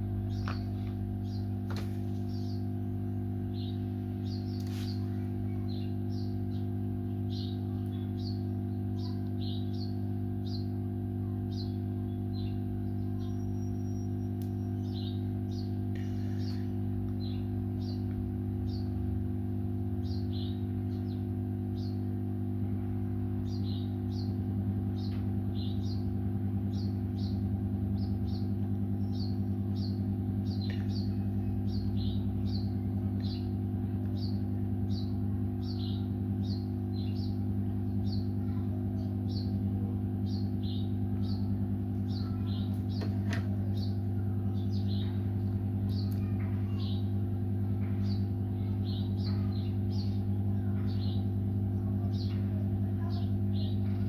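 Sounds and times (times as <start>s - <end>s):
low electrical hum: 0.0s - 54.0s
small bird chirping: 0.1s - 19.1s, 19.9s - 22.1s, 23.4s - 54.0s.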